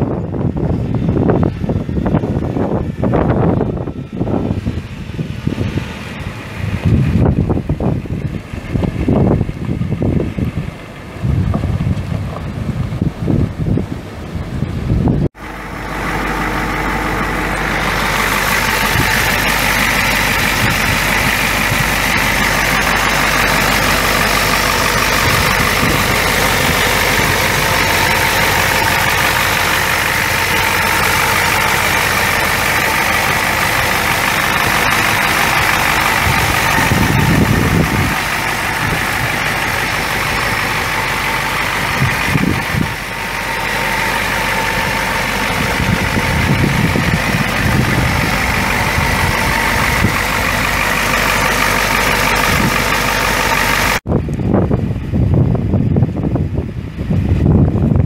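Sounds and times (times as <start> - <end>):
diesel engine idling: 0.0 - 58.0
low rumbles: 0.0 - 58.0.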